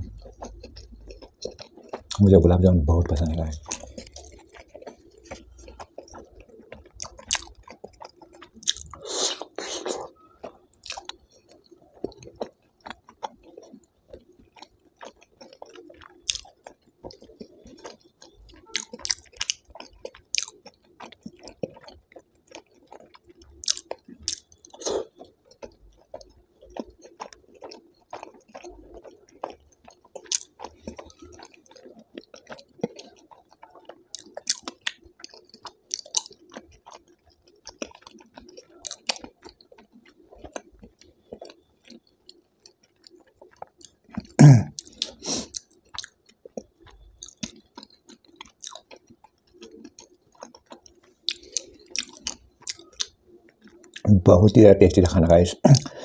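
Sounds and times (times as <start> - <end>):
person chewing wetly: 0.0 - 54.6, 55.6 - 56.0
mouth clicks and smacks: 3.2 - 54.7, 55.5 - 56.0.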